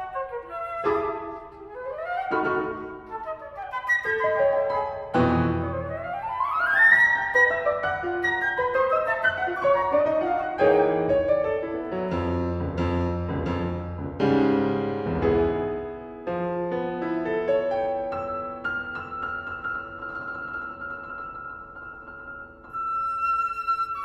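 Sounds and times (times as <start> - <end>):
piano playing: 0.0 - 24.0.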